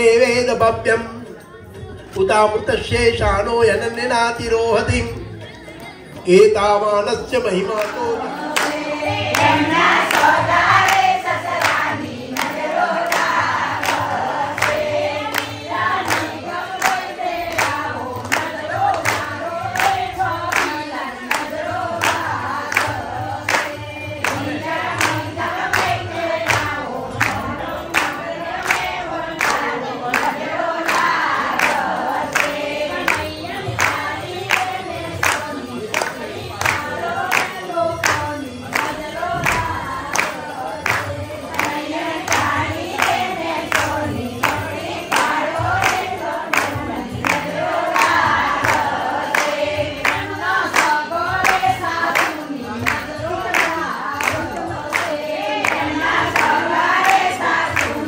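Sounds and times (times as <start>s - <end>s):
group singing: 0.0s - 58.0s
hand claps: 7.7s - 58.0s.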